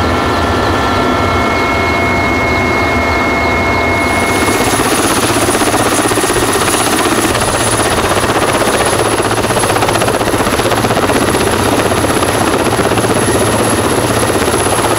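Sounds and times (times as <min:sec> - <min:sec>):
helicopter rotor beat: 0:00.0 - 0:14.9
turbine whine: 0:00.0 - 0:14.9.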